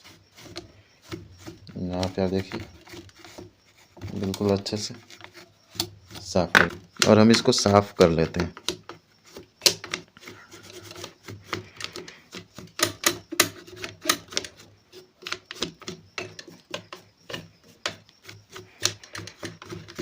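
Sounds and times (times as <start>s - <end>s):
scrubbing metal mechanism: 0.0s - 20.0s.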